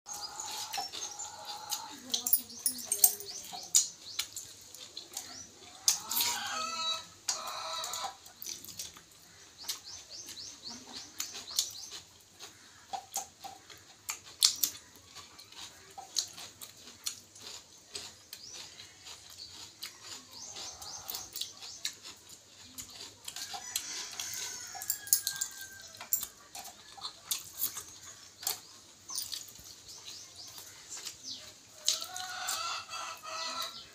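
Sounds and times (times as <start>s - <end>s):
chickens clucking: 0.1s - 33.9s
small birds chirping: 0.1s - 33.9s
mouth clicks and smacks chewing: 3.3s - 6.3s, 7.2s - 32.7s.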